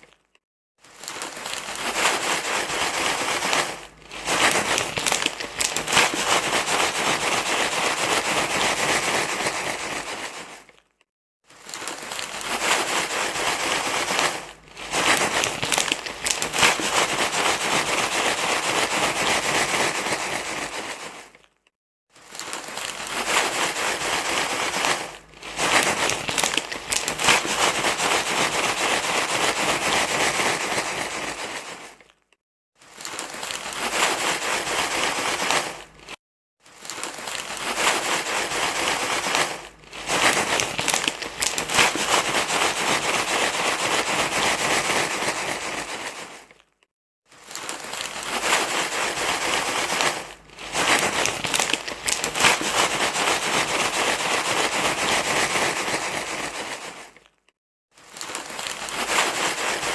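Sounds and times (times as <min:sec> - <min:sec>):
crinkling rustle: 0:00.0 - 0:59.9.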